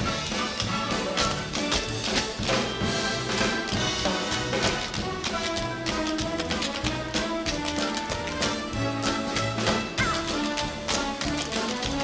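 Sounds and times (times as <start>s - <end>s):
orchestra playing dance music: 0.0s - 12.0s.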